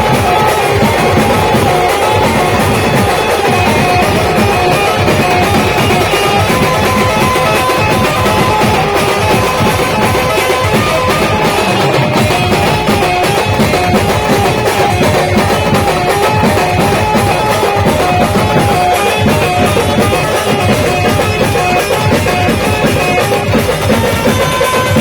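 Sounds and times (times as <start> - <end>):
fast dense drum beat: 0.0 - 25.0
repeating melody line: 0.0 - 25.0.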